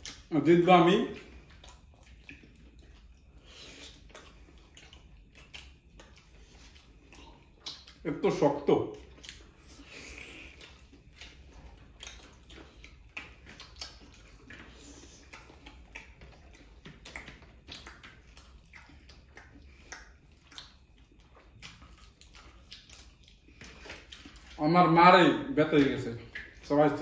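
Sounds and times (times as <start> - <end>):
wet mouth clicks and smacks: 0.0 - 0.4, 1.1 - 8.1, 8.9 - 24.6, 25.7 - 27.0
people chewing: 0.0 - 27.0.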